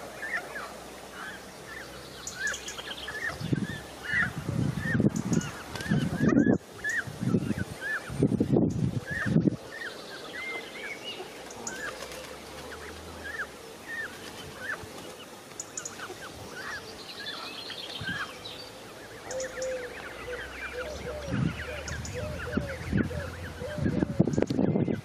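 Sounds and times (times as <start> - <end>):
goslings peeping: 0.0 - 25.0.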